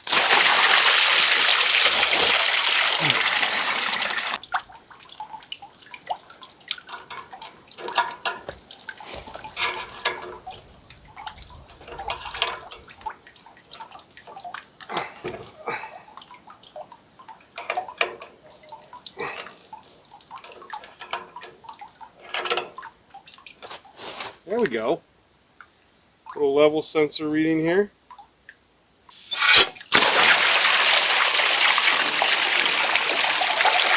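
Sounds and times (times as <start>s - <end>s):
sap dripping and splashing: 0.0s - 24.0s, 29.2s - 33.9s.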